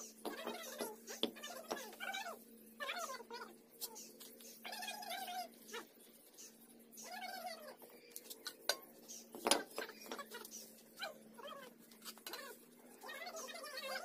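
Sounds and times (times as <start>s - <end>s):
animal whining calls: 0.0s - 7.8s, 9.8s - 14.0s.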